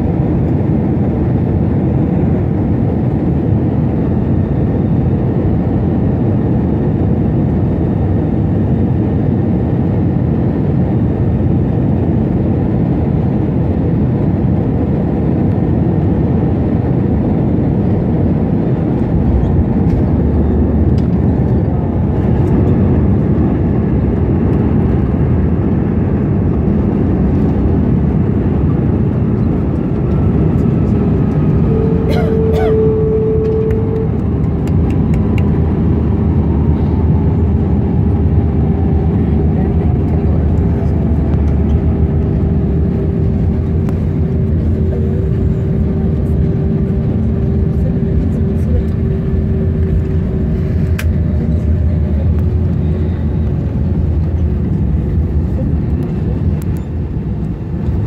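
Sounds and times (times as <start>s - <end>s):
airflow and engine noise: 0.0s - 58.0s
runway rumble: 0.0s - 58.0s.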